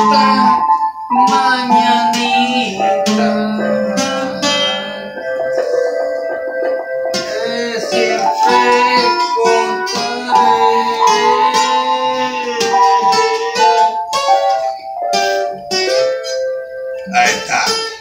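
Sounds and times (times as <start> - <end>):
acoustic guitar strumming: 0.0 - 18.0
electronic keyboard melody: 0.0 - 18.0.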